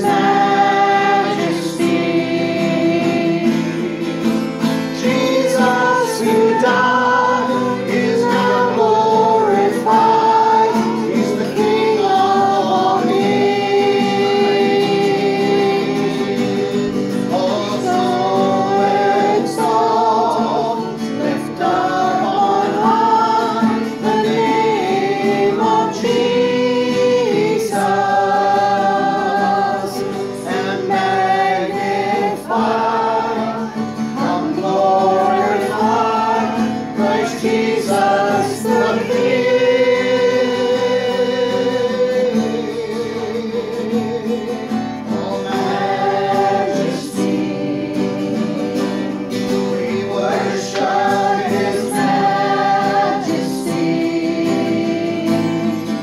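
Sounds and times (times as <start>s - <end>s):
group singing in unison: 0.0s - 56.0s
strummed acoustic guitar: 0.0s - 56.0s.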